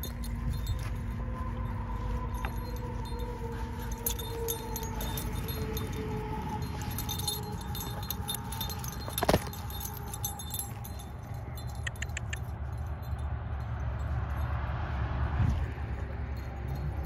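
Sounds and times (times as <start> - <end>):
metal tags jingling on collar: 0.0 - 14.8, 15.6 - 17.0
steady low rumble: 0.0 - 17.0.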